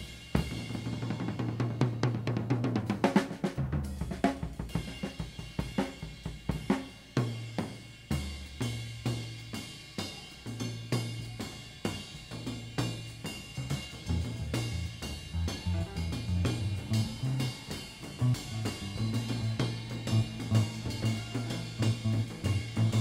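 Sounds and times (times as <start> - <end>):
drum kit solo: 0.0 - 23.0.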